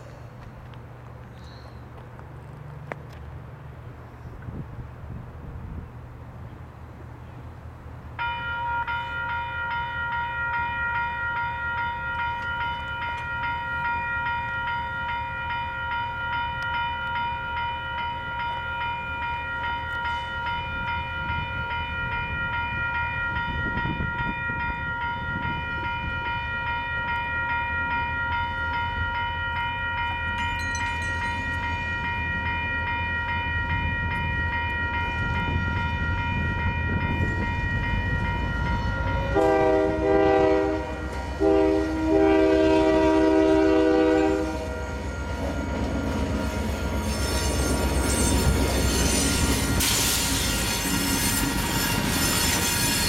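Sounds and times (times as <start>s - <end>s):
crossing warning bell ringing: 8.2s - 53.0s.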